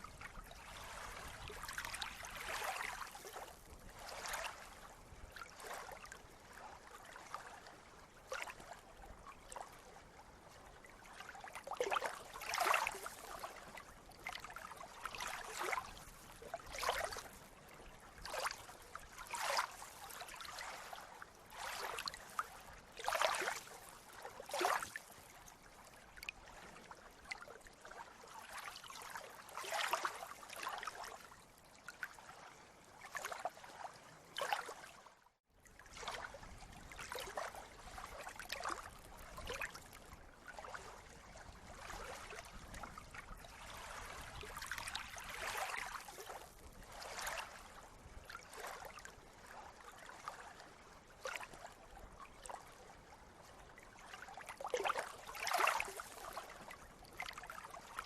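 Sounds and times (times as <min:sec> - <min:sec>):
small waves splashing: 0:00.0 - 0:58.0.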